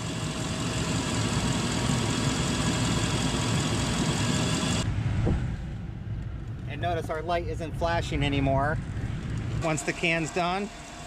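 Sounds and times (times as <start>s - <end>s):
ac compressor kicking on: 0.0s - 4.8s, 6.7s - 11.0s.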